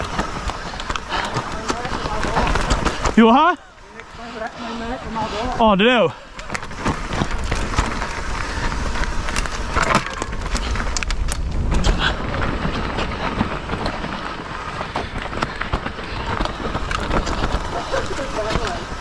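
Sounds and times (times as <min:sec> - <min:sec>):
bike parts rattling: 0:00.0 - 0:19.0
bike tyres over rocks and roots: 0:00.0 - 0:19.0
wind buffeting microphone: 0:00.0 - 0:19.0.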